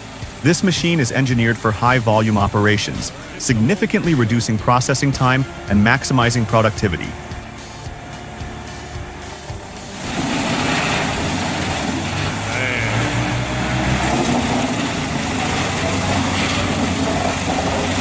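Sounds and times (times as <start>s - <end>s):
heavy machine engine running: 0.0s - 18.0s
loud wide rushing noise: 0.0s - 18.0s.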